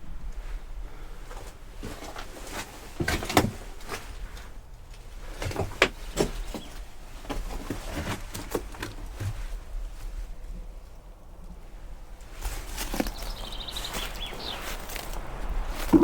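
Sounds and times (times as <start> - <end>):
cracks and rustles in undergrowth: 0.2 - 16.0.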